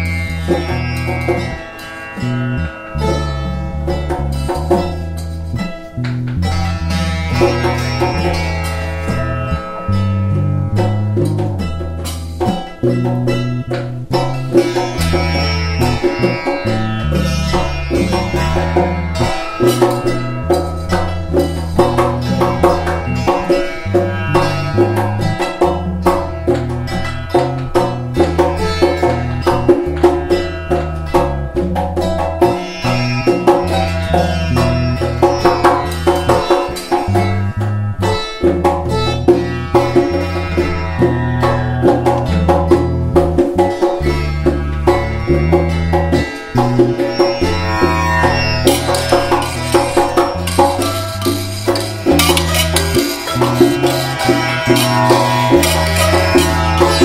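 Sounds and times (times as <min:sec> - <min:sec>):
light percussion: 0:00.0 - 0:57.0
low sustained notes: 0:00.0 - 0:57.0
plucked domra melody: 0:00.0 - 0:57.0.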